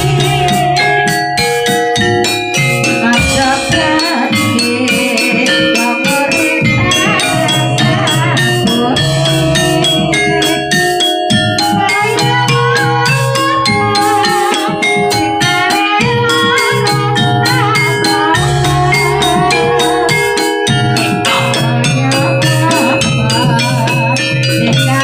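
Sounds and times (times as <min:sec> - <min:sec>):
drums beating quick rhythm: 0:00.0 - 0:25.0
tuned metal percussion ringing: 0:00.0 - 0:25.0.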